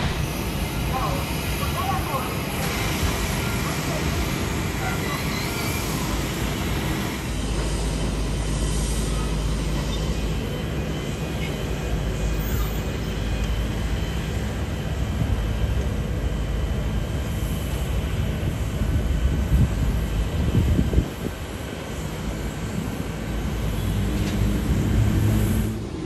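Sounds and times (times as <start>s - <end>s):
distant jet engines: 0.0s - 26.0s
ground traffic: 0.0s - 26.0s.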